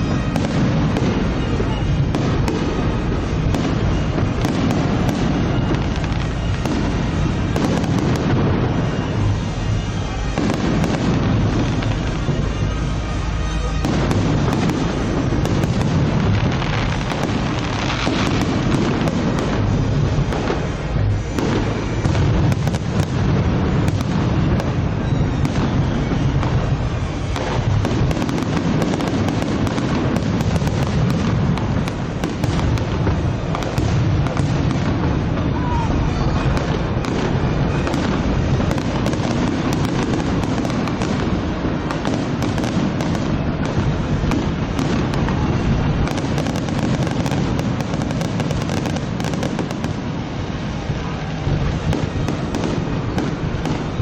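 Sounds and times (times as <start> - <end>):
fireworks booming and crackling: 0.0 - 54.0.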